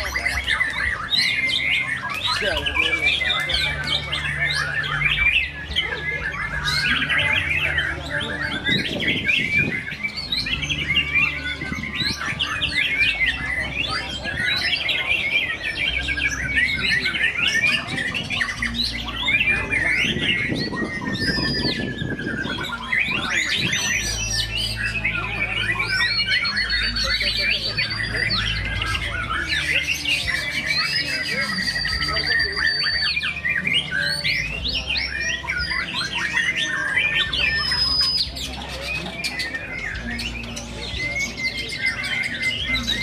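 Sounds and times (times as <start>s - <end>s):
birds singing chattering phrases: 0.0s - 43.0s.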